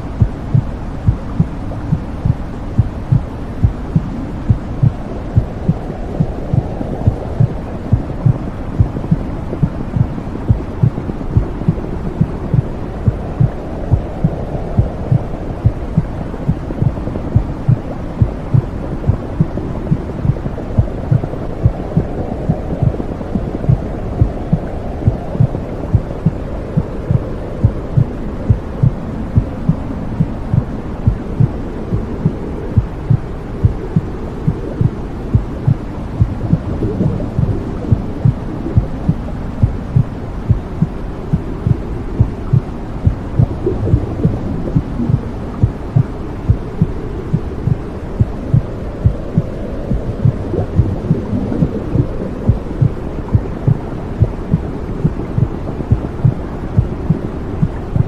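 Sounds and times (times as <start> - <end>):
heartbeat thumps: 0.0 - 58.0
low whooshing hum: 0.0 - 58.0.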